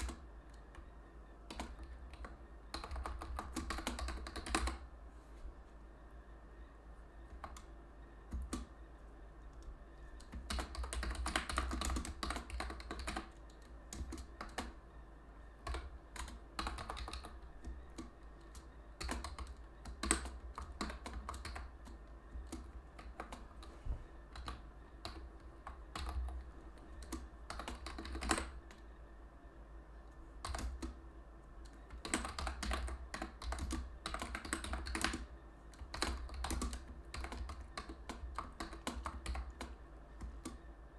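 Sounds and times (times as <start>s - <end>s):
keyboard typing clicks: 0.0s - 0.9s, 1.5s - 4.9s, 7.2s - 7.7s, 8.3s - 8.7s, 9.5s - 14.8s, 15.6s - 23.7s, 24.3s - 28.8s, 30.0s - 31.0s, 31.6s - 40.7s.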